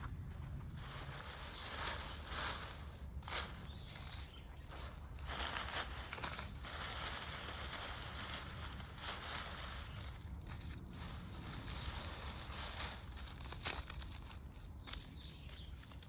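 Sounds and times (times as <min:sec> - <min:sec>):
dry leaves crackling and rustling: 0:00.7 - 0:16.0.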